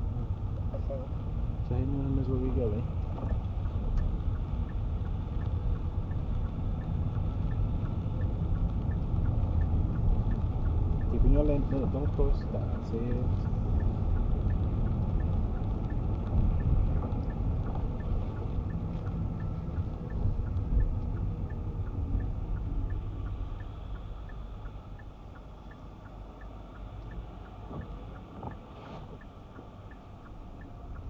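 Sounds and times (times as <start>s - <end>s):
car tyres and engine rumble: 0.0s - 31.0s
faint regular ticking: 0.2s - 31.0s.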